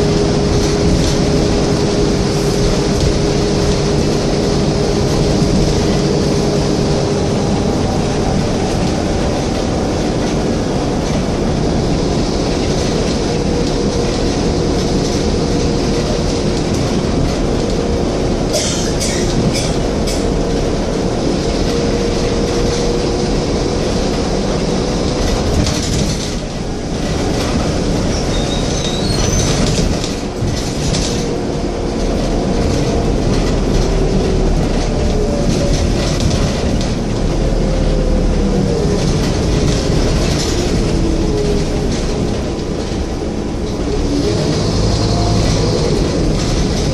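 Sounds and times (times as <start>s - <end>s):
bus engine and road noise: 0.0s - 46.9s.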